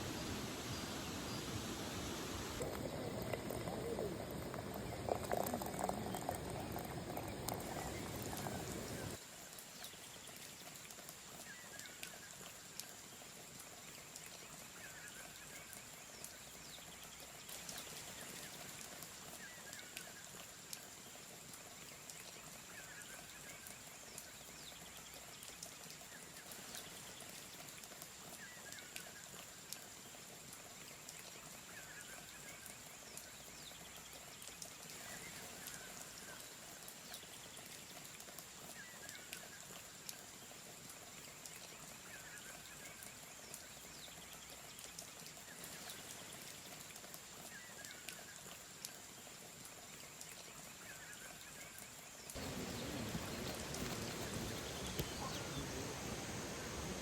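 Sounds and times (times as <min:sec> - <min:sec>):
flowing water hiss: 0:00.0 - 0:57.0.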